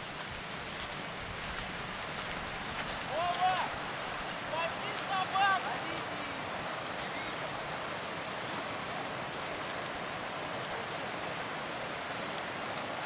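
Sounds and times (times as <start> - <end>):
river current rushing: 0.0 - 13.0
water splashes: 0.0 - 13.0.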